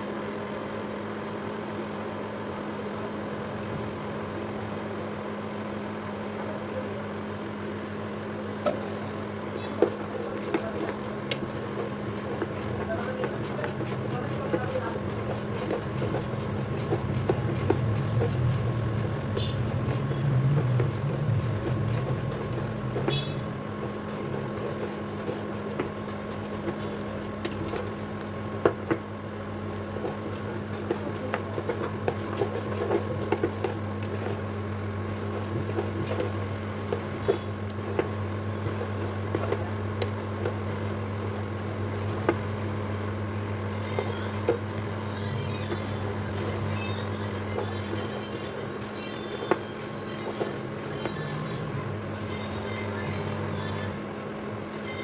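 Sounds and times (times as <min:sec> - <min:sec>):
steady low hum: 0:08.1 - 0:54.4.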